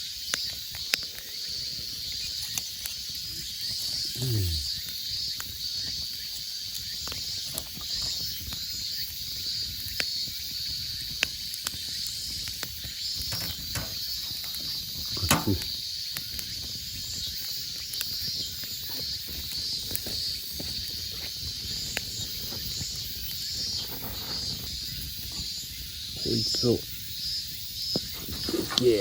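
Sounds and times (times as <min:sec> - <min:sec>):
campfire crackling and popping: 0:00.0 - 0:29.0
insect drone: 0:00.0 - 0:29.0.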